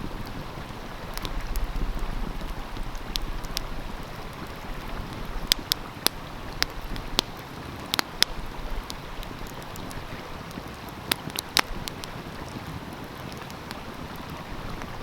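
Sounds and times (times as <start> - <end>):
stream rushing: 0.0 - 15.0
wood fire crackling and popping: 0.1 - 15.0.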